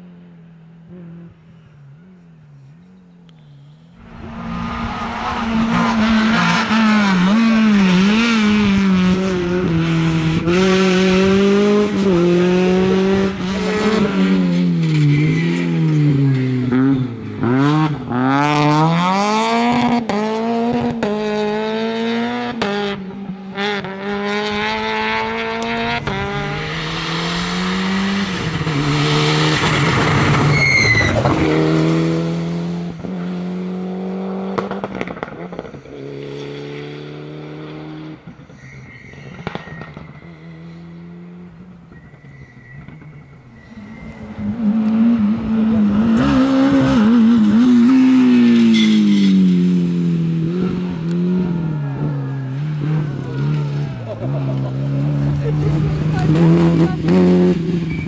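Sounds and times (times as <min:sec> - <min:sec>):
cars passing at speed: 0:03.7 - 0:58.0
rally car engine revving: 0:04.0 - 0:58.0.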